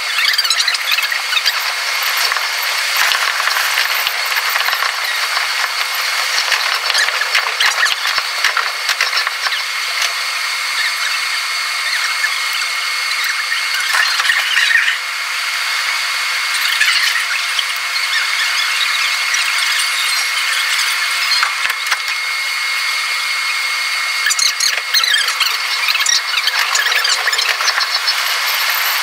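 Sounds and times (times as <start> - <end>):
high-pitched squealing rattling chatter: 0.0 - 29.0.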